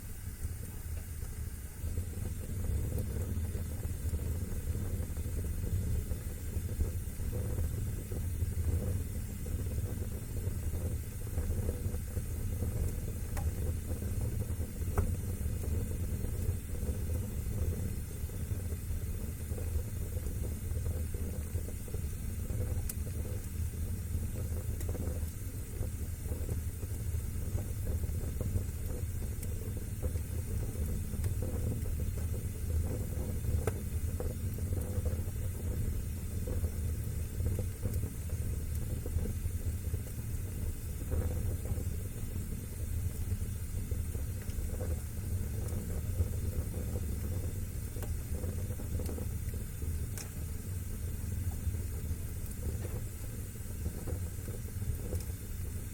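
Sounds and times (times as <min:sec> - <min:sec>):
fire crackling: 0:00.0 - 0:55.9
fire rumbling: 0:00.0 - 0:55.9.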